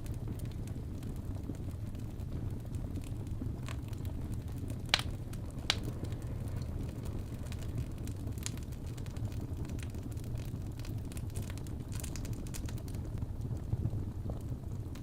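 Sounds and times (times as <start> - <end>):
fire popping and cracking: 0.0 - 15.0
fire rumbling: 0.0 - 15.0.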